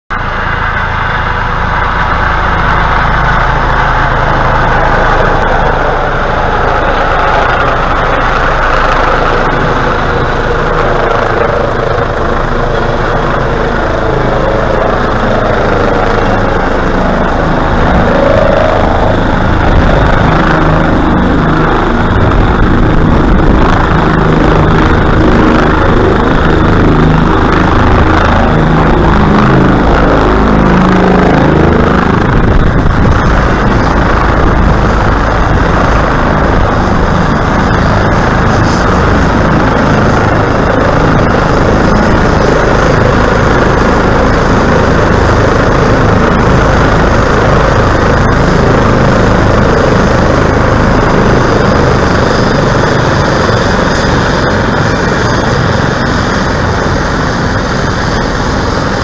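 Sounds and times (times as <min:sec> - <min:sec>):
helicopter rotor and turbine din: 0:00.1 - 0:59.0.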